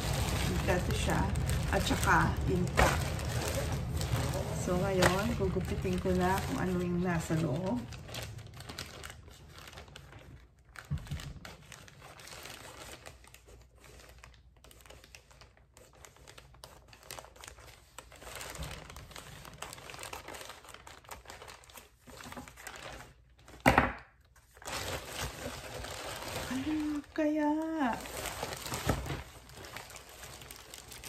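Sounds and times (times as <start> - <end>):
plastic mailer crinkling: 0.0 - 23.6, 24.2 - 31.0.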